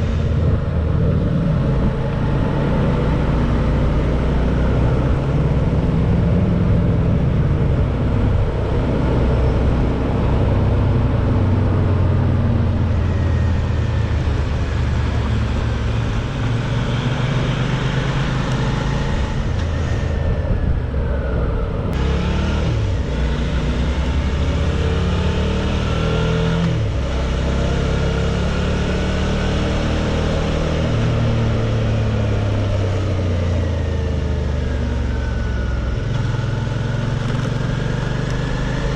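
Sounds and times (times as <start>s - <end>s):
motorcycle engine under way: 0.0s - 38.9s
wind and road noise: 0.0s - 38.9s.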